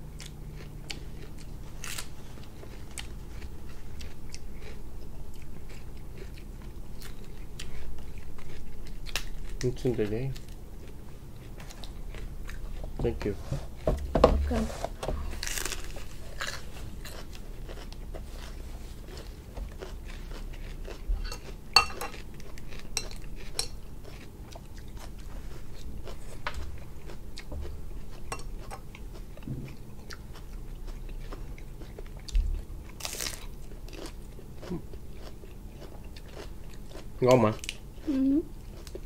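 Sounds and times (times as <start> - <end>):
person chewing crisp lettuce: 0.0 - 13.8, 15.2 - 39.0.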